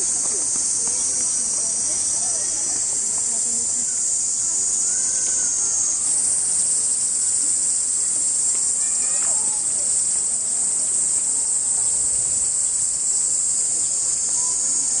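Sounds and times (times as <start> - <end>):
faint distant voices: 0.0 - 15.0
insects shrilling: 0.0 - 15.0.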